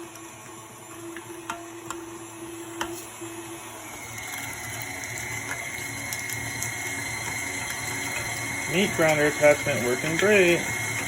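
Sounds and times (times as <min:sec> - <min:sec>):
meat grinder motor humming: 0:00.0 - 0:11.0.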